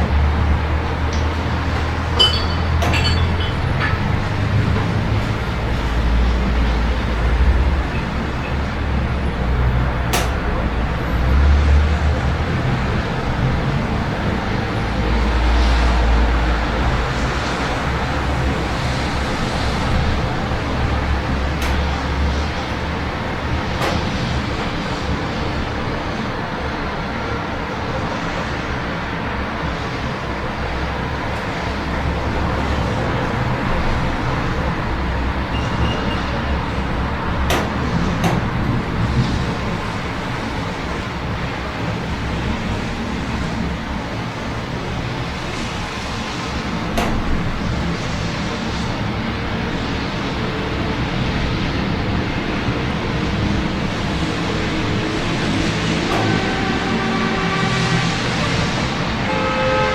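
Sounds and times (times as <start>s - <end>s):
road traffic noise: 0.0s - 59.9s
rumble of passing vehicles: 0.0s - 59.9s.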